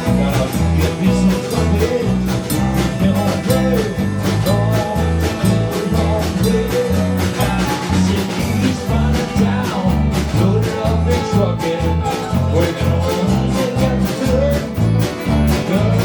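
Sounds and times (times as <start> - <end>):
live country-rock band: 0.0 - 16.0.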